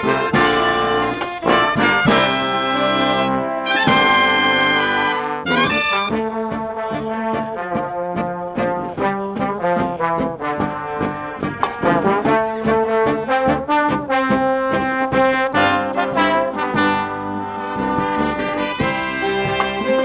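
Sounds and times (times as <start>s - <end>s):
marching brass band playing: 0.0s - 20.0s
steady drum beat: 0.0s - 20.0s.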